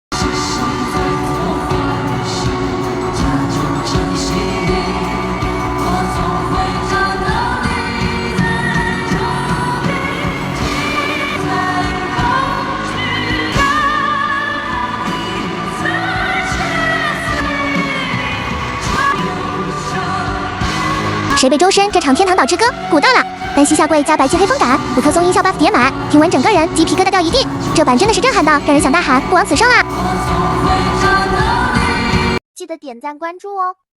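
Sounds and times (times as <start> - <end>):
live band accompaniment: 0.1 - 32.4.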